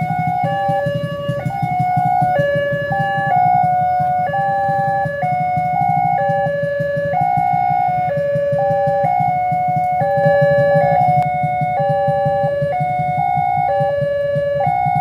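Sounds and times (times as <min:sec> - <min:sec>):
direction indicator siren: 0:00.0 - 0:15.0
level crossing barrier siren: 0:00.0 - 0:15.0
motorcycles idling: 0:00.0 - 0:15.0.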